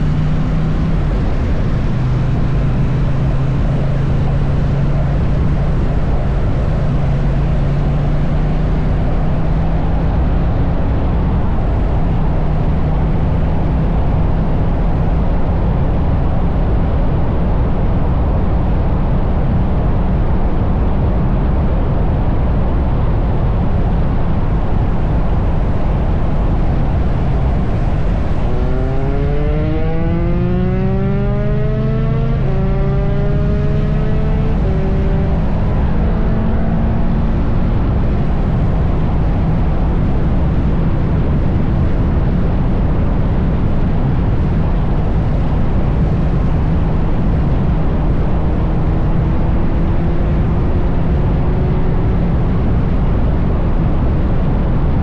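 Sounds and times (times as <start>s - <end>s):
motorcycle engine cruising: 0.0s - 18.7s, 23.1s - 55.0s
wind rush on microphone: 0.0s - 55.0s.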